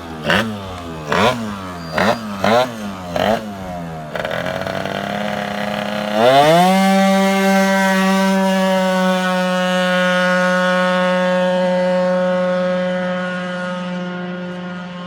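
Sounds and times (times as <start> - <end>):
scooter engine high-pitched drone: 0.0 - 15.0.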